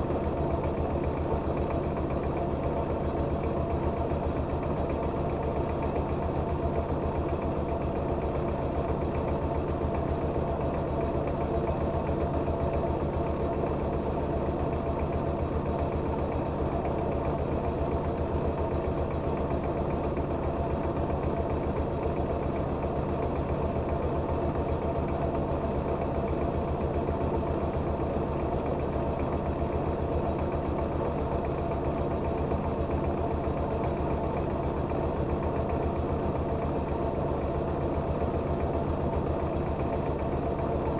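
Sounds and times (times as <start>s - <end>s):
rice milling machine running: 0.0s - 40.9s.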